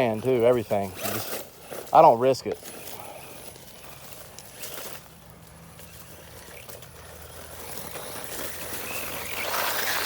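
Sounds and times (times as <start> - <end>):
electric rc buggy on dirt: 0.0 - 10.0.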